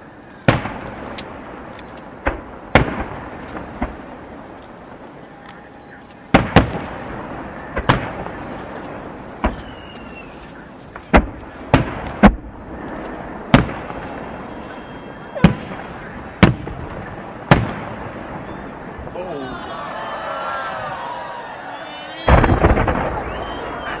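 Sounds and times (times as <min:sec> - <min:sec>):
fireworks booming: 0:00.0 - 0:24.0.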